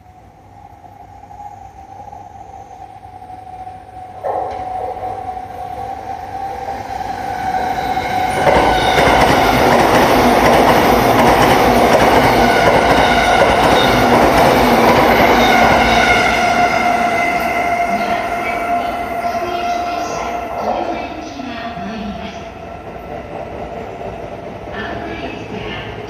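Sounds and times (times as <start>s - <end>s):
wheels rumbling on rail: 4.2s - 26.0s.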